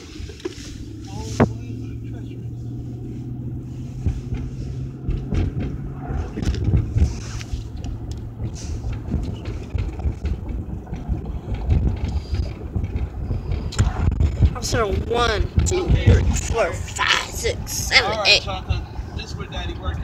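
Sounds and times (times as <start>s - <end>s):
car cabin road rumble: 0.0s - 20.0s
steady low hum: 0.0s - 20.0s.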